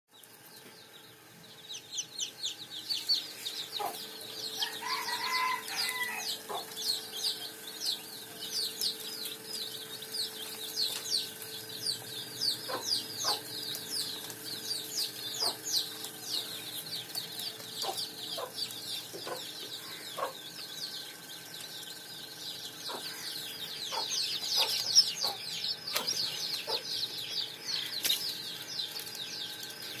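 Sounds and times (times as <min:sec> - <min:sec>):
chicks peeping: 0:00.1 - 0:30.0.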